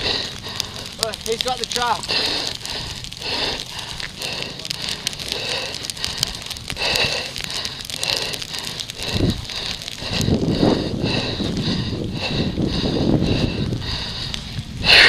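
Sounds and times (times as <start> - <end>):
person panting: 0.0 - 1.1, 2.0 - 15.0.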